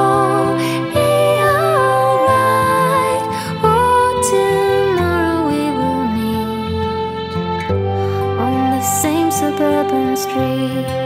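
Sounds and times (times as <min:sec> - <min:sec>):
soft gentle background song: 0:00.0 - 0:11.0.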